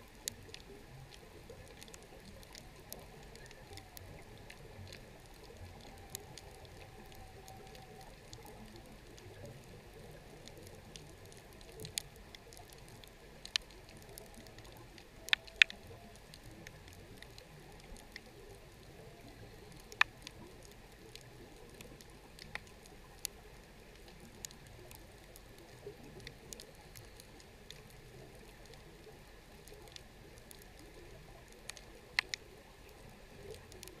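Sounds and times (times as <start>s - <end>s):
faint underwater hiss: 0.0s - 34.0s
sharp underwater clicks and snaps: 0.0s - 34.0s.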